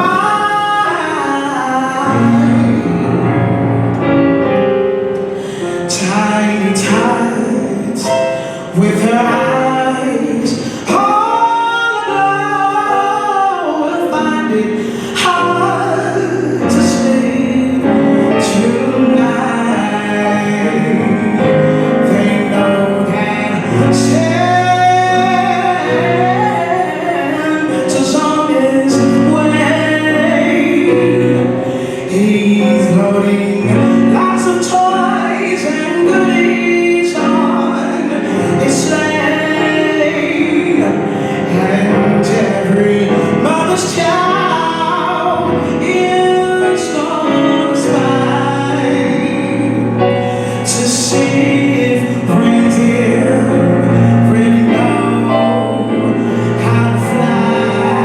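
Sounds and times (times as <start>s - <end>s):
person singing: 0.0s - 58.0s.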